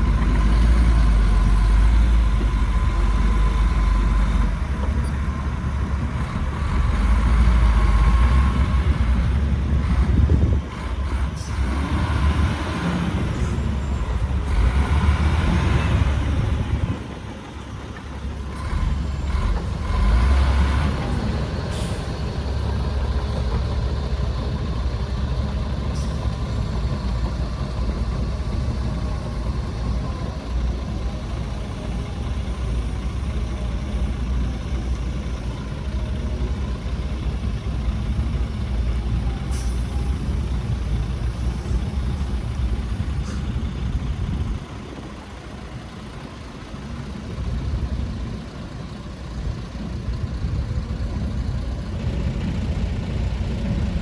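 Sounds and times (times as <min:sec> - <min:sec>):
heavy diesel engines rumbling: 0:00.0 - 0:54.0.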